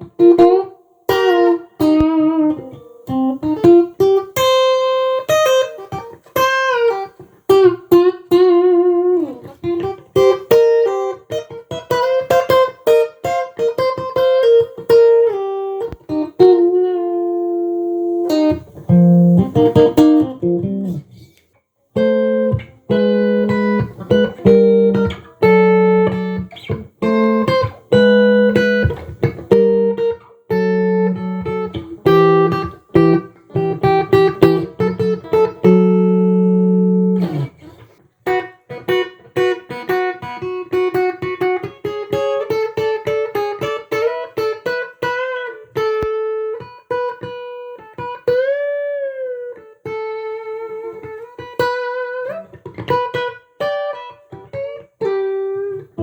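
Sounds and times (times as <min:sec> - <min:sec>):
electric guitar playing: 0:00.0 - 0:56.0.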